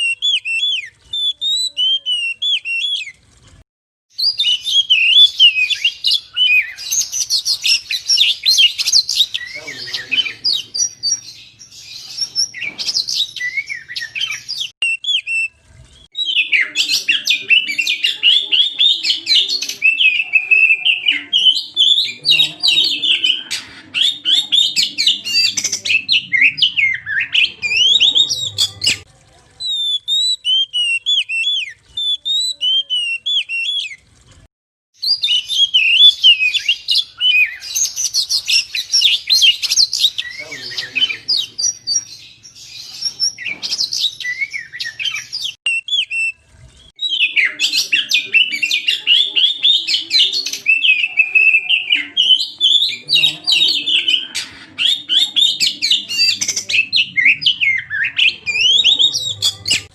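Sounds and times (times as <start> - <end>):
bird singing whistled phrases: 0.0 - 3.2, 4.2 - 29.0, 29.6 - 34.0, 35.0 - 59.9.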